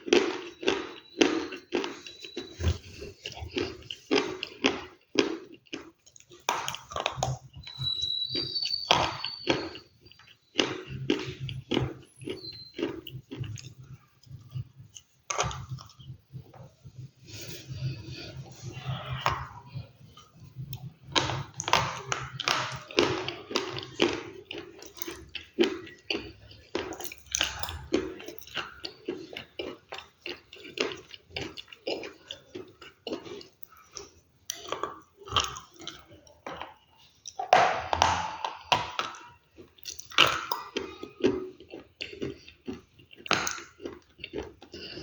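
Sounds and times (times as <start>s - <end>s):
chewing crunchy food: 0.0s - 45.0s.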